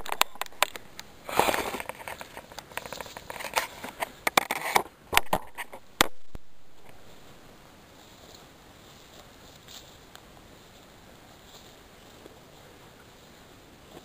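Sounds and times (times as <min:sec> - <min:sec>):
footsteps through dry grass: 0:00.0 - 0:04.2, 0:06.6 - 0:14.0.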